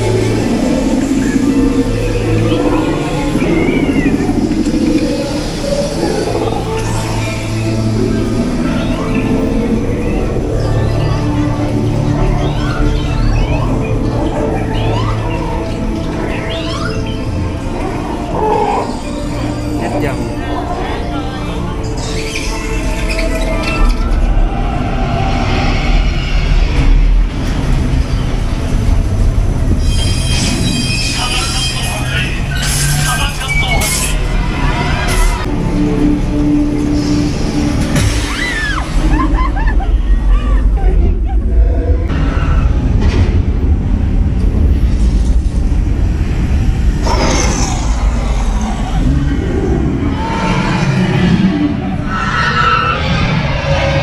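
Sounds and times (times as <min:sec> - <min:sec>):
ride vehicle rumbling on track: 0:00.0 - 0:54.0.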